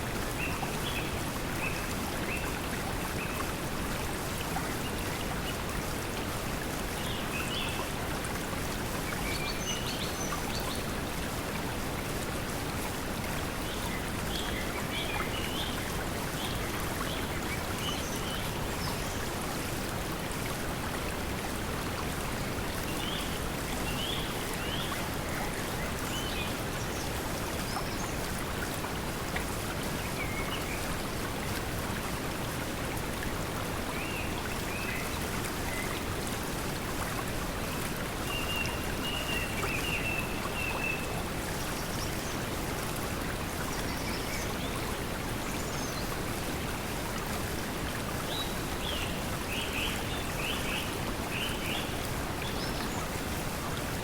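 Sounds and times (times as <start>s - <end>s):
flowing water: 0.0s - 54.0s.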